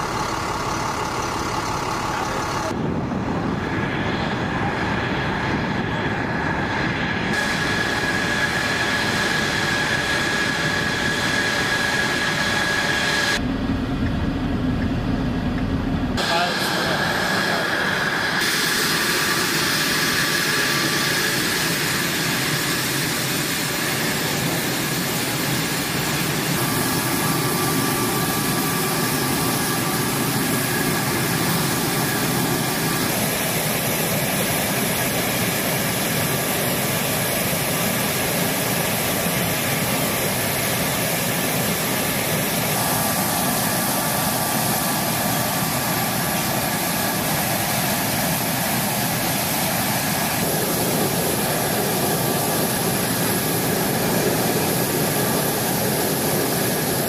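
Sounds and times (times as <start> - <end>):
jet engine idling with whine: 0.0 - 57.0.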